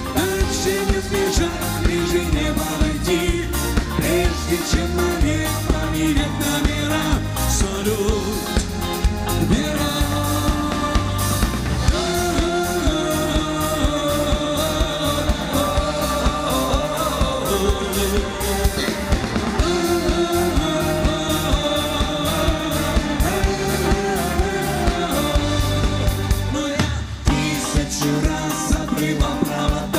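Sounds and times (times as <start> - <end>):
man singing: 0.0 - 29.9
pop-rock band playing: 0.0 - 29.9
steady drum beat: 0.0 - 29.9.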